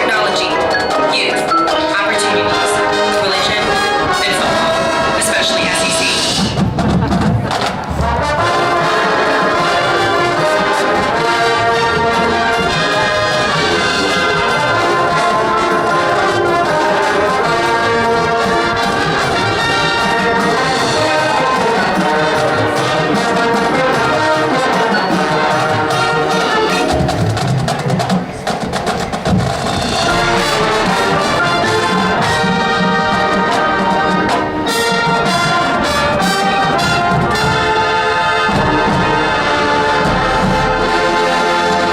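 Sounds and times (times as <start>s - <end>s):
marching band playing: 0.0s - 41.9s.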